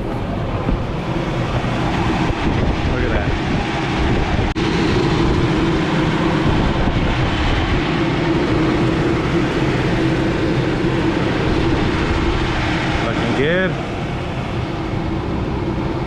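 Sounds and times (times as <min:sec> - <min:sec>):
exhaust hood fan running: 0:00.0 - 0:16.0.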